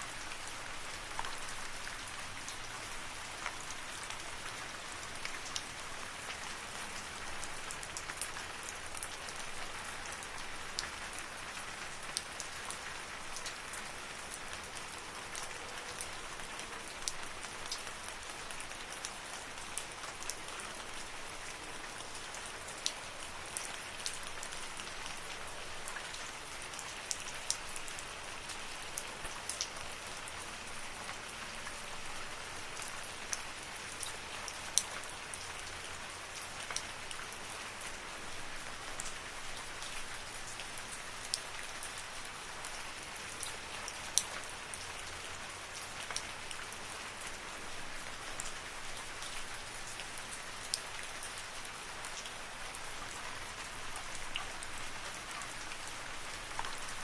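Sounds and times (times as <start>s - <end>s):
rain falling in a forest: 0.0s - 57.0s
raindrops ticking close by: 0.1s - 57.0s.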